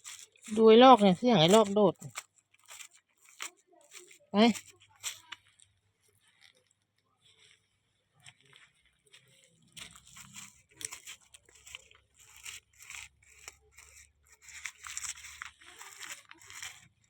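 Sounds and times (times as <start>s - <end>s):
crunching and rustling: 0.0s - 17.0s.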